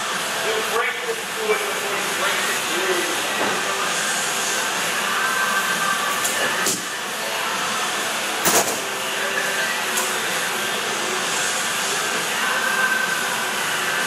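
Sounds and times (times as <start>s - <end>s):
machine hum and hiss: 0.0s - 14.0s.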